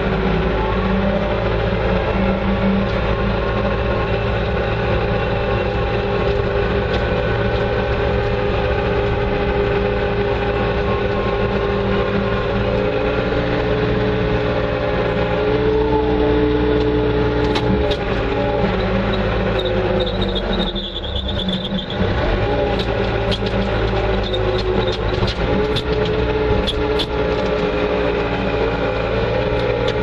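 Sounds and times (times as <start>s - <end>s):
loader engine running: 0.0s - 30.0s.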